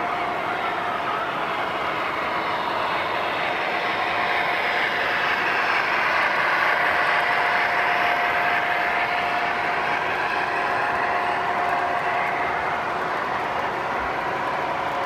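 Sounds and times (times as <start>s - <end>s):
model train whir and clatter: 0.0s - 15.0s.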